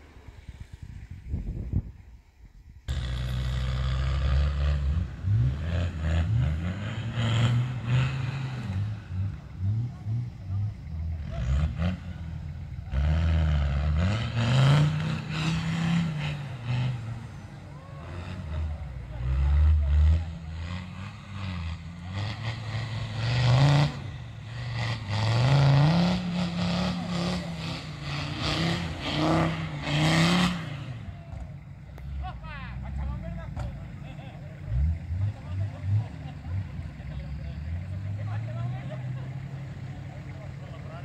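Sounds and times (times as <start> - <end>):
off-road vehicle engine revving: 2.8 - 41.0.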